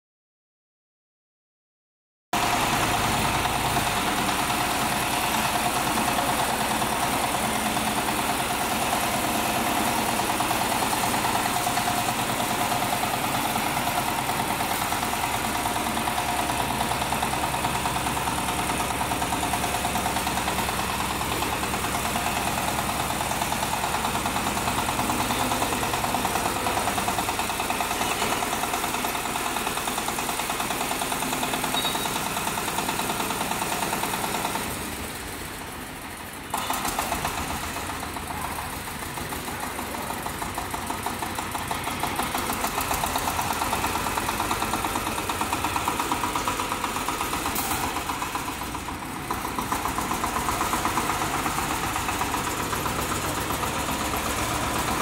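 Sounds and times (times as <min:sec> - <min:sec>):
diesel tractor engine idling: 0:02.4 - 0:55.0.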